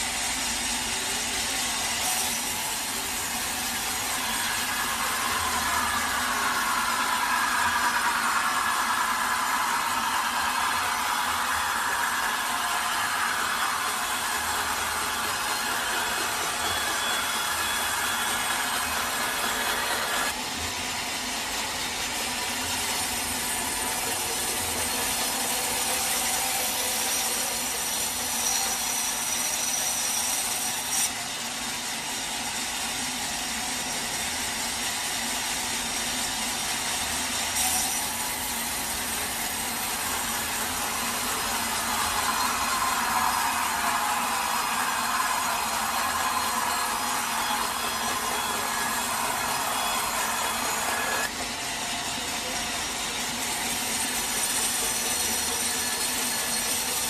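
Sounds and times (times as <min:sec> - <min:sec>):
saw cutting through a log: 0:00.0 - 0:57.0.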